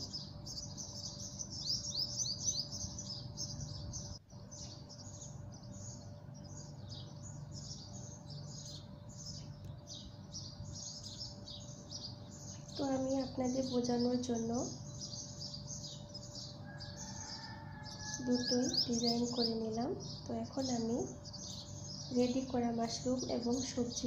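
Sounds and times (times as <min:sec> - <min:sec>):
faint steady hum: 0:00.0 - 0:24.0
small birds chirping: 0:00.0 - 0:24.0.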